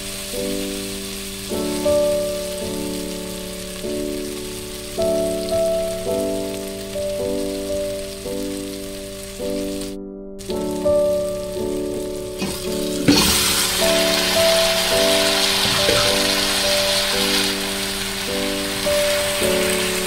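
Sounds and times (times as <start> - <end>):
background music with chords: 0.0 - 20.0
onions and tomatoes sizzling in oil: 0.0 - 20.0.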